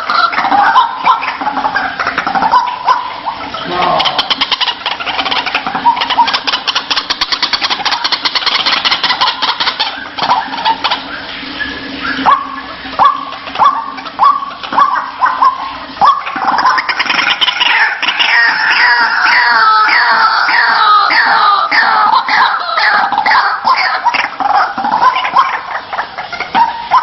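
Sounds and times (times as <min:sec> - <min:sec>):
waterhen calling: 0:00.0 - 0:27.0.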